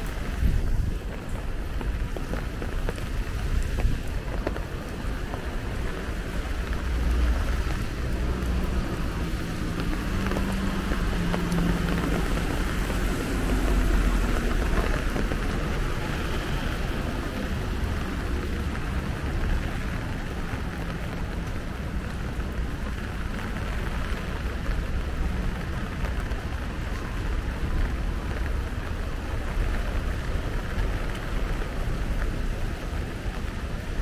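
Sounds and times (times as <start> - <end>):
road traffic engine hum: 0.0 - 34.0
steady rain: 0.0 - 34.0
wind rumbling on microphone: 0.0 - 34.0.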